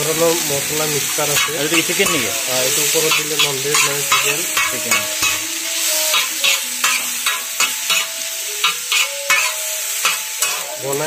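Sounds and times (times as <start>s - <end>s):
food sizzling: 0.0s - 11.0s
metal spatula scraping on griddle: 0.2s - 10.8s.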